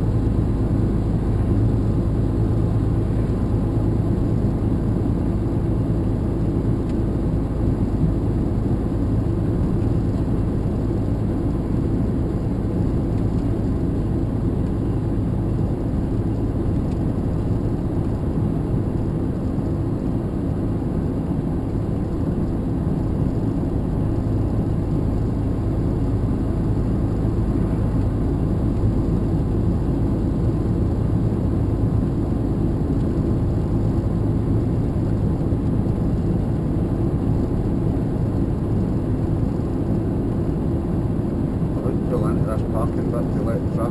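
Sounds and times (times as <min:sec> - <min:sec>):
vehicle engine and road rumble: 0:00.0 - 0:43.9.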